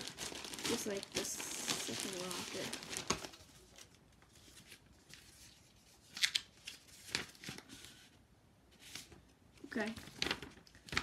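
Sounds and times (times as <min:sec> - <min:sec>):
paper rustling and crinkling: 0:00.0 - 0:08.2, 0:08.8 - 0:11.0.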